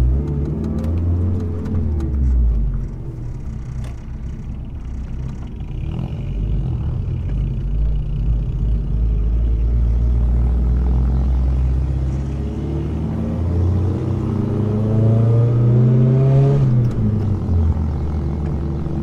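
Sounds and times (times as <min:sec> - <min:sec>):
car engine droning: 0:00.0 - 0:19.0
road and wind noise: 0:00.0 - 0:19.0.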